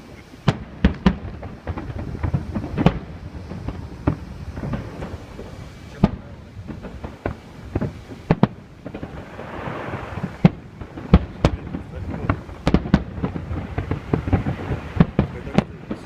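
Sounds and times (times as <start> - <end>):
fireworks bursting with sharp bangs: 0.0 - 16.0
hissing crackle of fireworks: 0.0 - 16.0.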